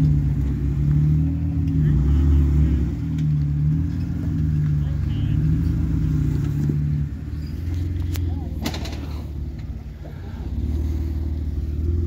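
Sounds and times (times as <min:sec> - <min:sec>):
off-road engine at low revs: 0:00.0 - 0:12.0.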